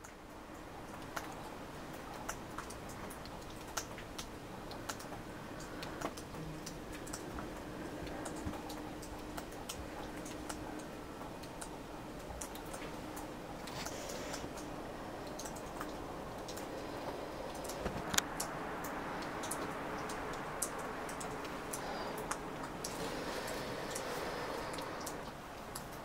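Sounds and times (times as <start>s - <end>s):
faint steady hum: 0.0s - 26.0s
rain and wet snow falling: 0.0s - 26.0s
sharp drips and ticks: 0.0s - 26.0s.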